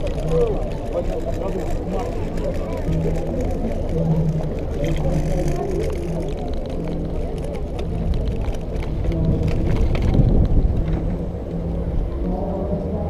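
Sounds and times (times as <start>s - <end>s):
scooter rumbling over pavement: 0.0s - 12.5s.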